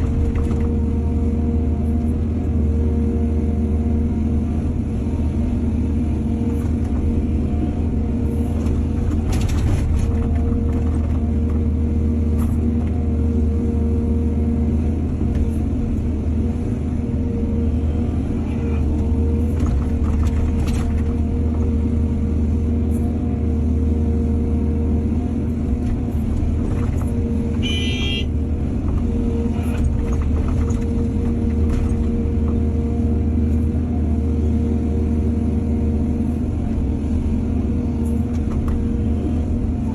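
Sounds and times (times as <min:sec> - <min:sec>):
constant hum: 0:00.0 - 0:39.9
excavator diesel engine under load: 0:00.0 - 0:39.9.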